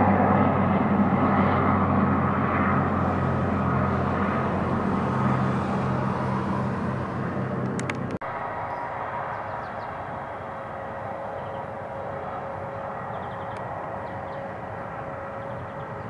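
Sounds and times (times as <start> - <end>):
helicopter flying past: 0.0 - 16.0.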